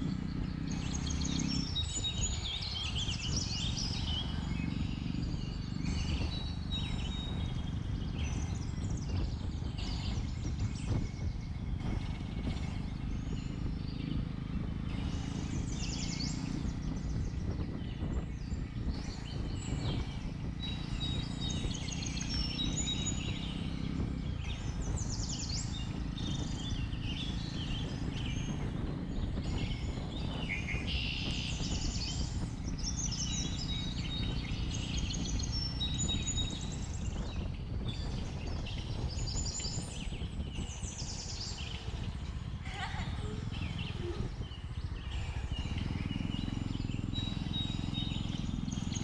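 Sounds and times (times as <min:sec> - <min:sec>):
forest birds chirping: 0:00.0 - 0:49.0
motorcycle engine rumble: 0:00.0 - 0:49.0.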